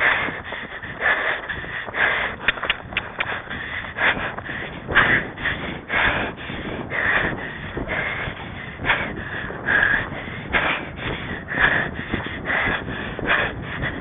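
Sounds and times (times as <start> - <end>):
heavy rapid breathing: 0.0 - 14.0.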